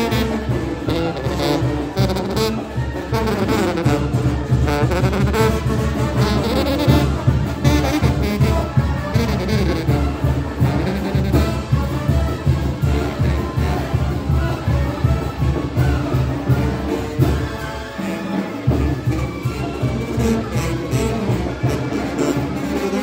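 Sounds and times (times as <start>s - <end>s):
brass band playing: 0.0s - 23.0s.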